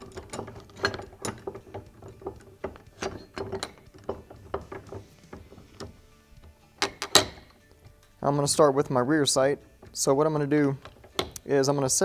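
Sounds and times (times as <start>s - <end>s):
metal clicks and knocks: 0.0s - 12.0s.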